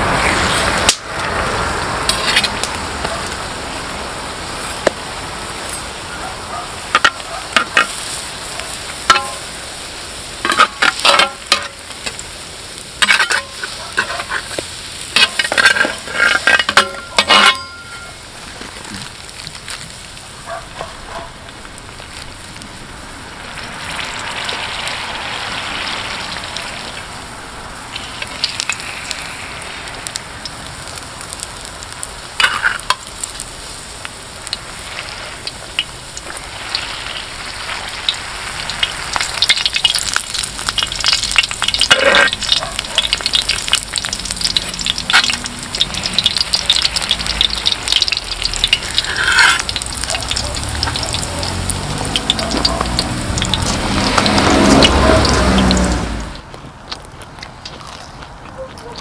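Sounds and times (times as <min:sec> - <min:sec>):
dough sizzling in oil: 0:00.0 - 0:56.5.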